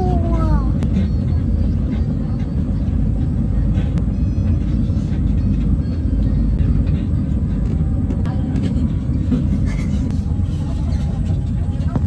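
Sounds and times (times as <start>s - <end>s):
tram rumbling in motion: 0.0s - 12.0s.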